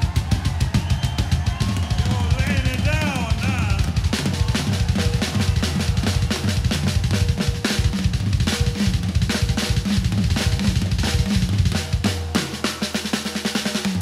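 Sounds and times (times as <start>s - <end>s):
drum kit: 0.0s - 14.0s
rock music: 0.0s - 14.0s.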